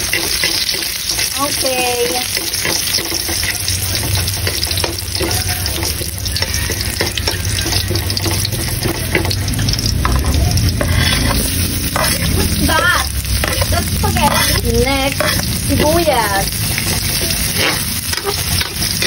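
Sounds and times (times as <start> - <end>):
garlic sizzling in hot oil: 0.0 - 19.0
spatula scraping a wok: 0.0 - 19.0.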